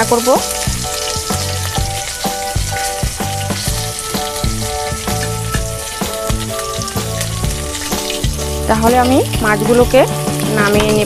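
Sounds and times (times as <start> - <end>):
fish sizzling in oil: 0.0 - 11.0
music with steady beat: 0.4 - 11.0.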